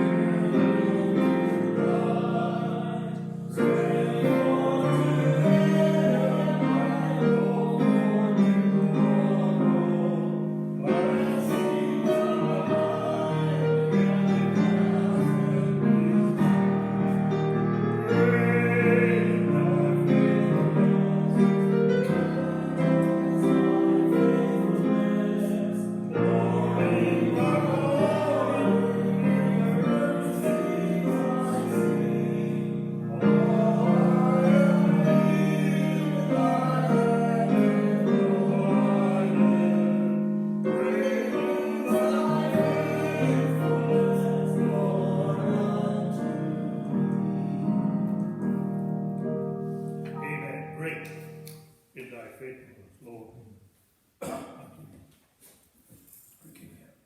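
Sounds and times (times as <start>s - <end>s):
people singing a hymn: 0.0s - 48.6s
keyboard accompaniment: 0.0s - 52.1s.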